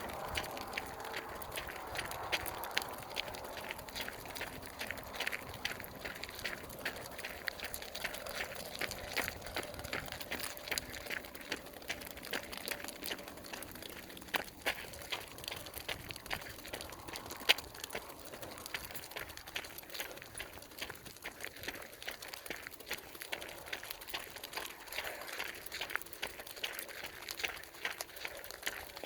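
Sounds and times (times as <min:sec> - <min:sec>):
piglet trotters tapping: 0:00.0 - 0:29.0.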